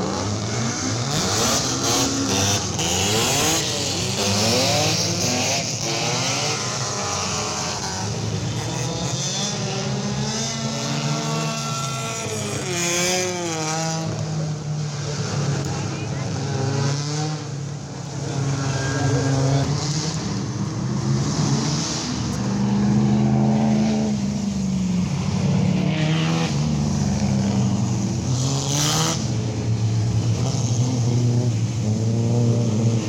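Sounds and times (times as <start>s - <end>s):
race car engines revving: 0.0s - 33.0s.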